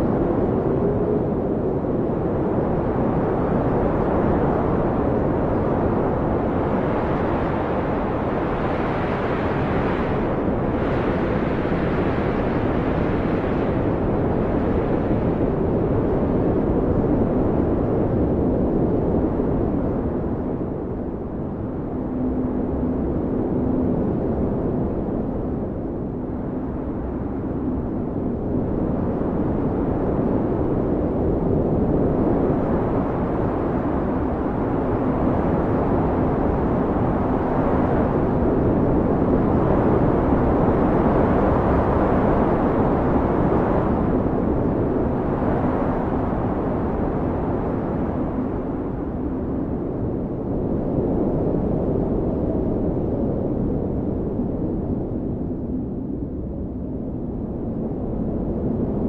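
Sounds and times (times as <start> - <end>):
low wind howl: 0.0 - 59.0.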